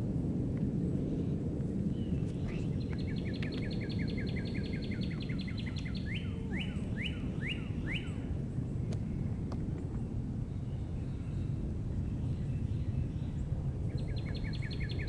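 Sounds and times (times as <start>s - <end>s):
low background rumble: 0.0s - 15.0s
songbird singing: 1.9s - 9.0s, 9.7s - 15.0s.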